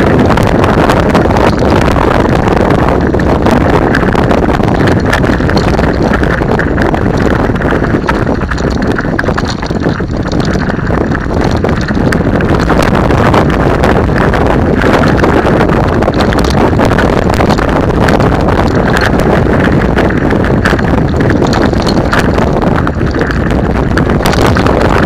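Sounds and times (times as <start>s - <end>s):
bike rattling: 0.0s - 25.0s
bike tyres rolling over stones: 0.0s - 25.0s
wind buffeting microphone: 0.0s - 25.0s.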